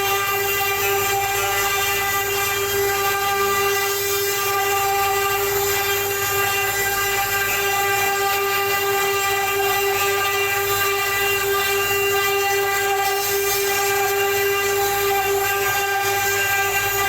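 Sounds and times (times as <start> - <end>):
router spindle whining: 0.0 - 17.0.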